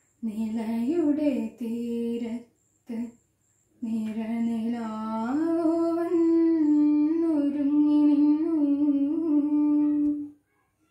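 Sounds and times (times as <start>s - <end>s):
girl singing unaccompanied: 0.2s - 3.2s, 3.8s - 10.4s.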